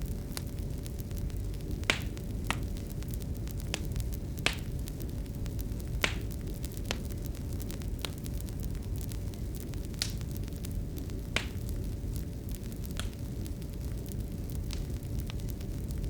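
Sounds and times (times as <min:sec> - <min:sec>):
faint steady hum: 0:00.0 - 0:16.0
fire crackles and pops: 0:00.0 - 0:16.0
fireplace fire rumbling: 0:00.0 - 0:16.0.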